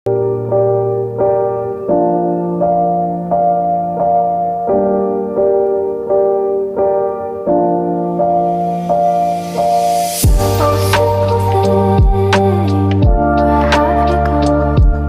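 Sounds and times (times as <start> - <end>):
gentle piano melody: 0.1 - 15.0.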